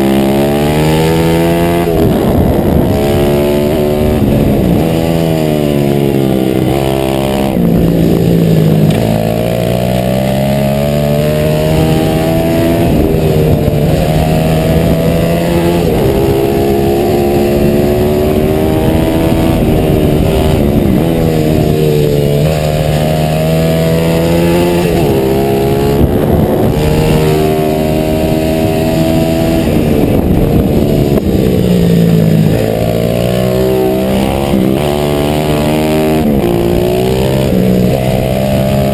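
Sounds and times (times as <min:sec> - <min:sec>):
motorbike engine accelerating: 0:00.0 - 0:38.9.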